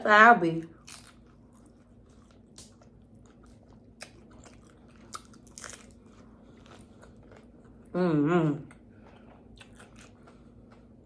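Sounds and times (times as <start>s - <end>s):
chewing with soft crunches: 0.6s - 8.0s, 8.6s - 11.0s.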